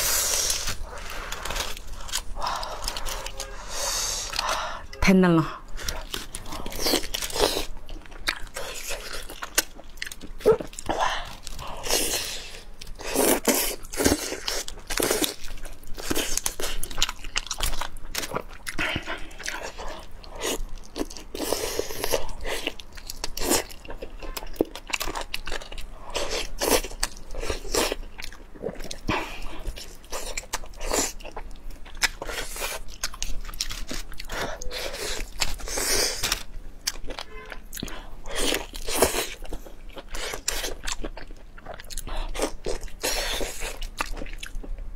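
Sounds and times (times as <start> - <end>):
close eating and chewing: 0.0 - 44.9.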